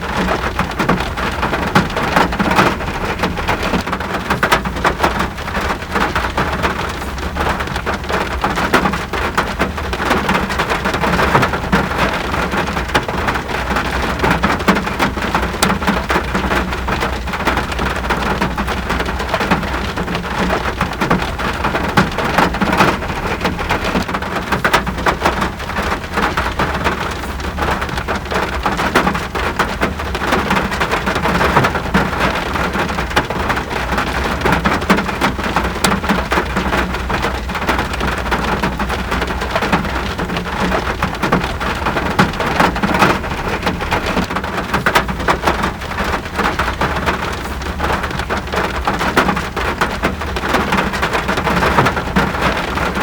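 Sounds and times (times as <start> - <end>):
raindrops ticking on a surface: 0.0 - 53.0.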